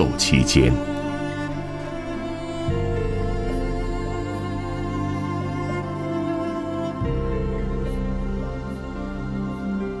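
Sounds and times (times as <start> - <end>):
slow sustained background music: 0.0 - 10.0.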